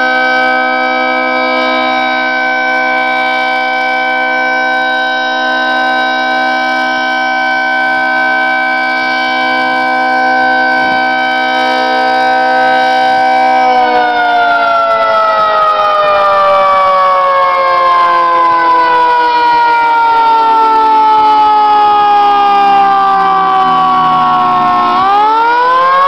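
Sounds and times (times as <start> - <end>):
dual-tone warning siren: 0.0 - 26.0.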